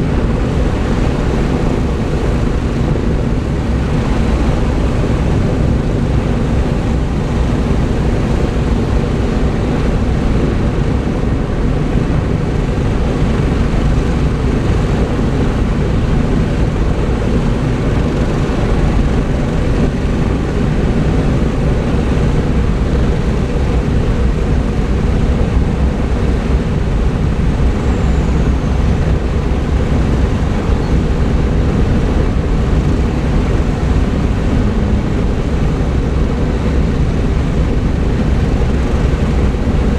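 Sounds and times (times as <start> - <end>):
piston aircraft engines droning: 0.0 - 39.9.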